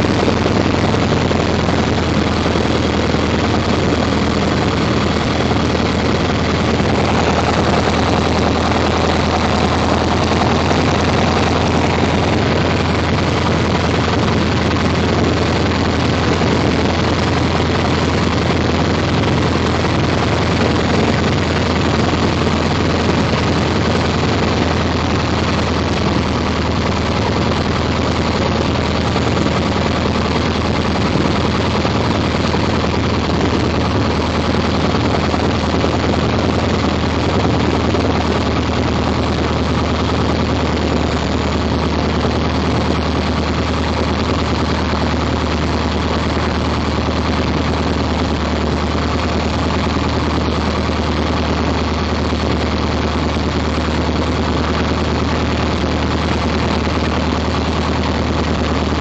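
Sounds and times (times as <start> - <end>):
small plane engine and propeller: 0.0 - 59.0.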